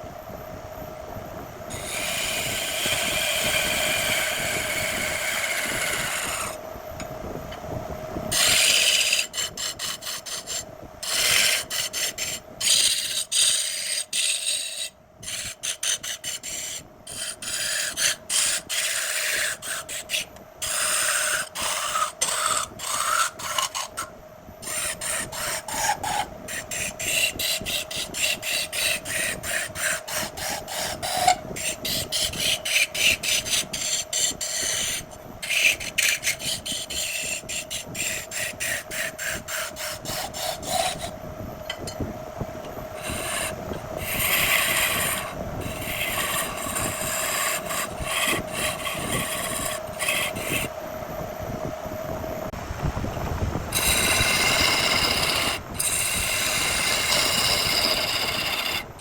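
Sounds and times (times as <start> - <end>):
hand tool scraping spinning wood: 1.7 - 6.6, 8.3 - 42.0, 43.0 - 50.7, 53.7 - 59.0
wood lathe humming: 1.7 - 6.6, 8.3 - 41.9, 42.8 - 50.8, 53.7 - 59.0.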